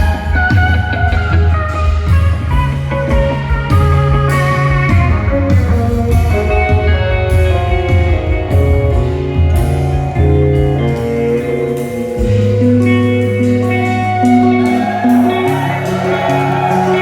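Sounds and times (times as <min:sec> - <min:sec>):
bass guitar: 0:00.0 - 0:17.0
drums: 0:00.0 - 0:17.0
electric guitar solo: 0:00.0 - 0:17.0.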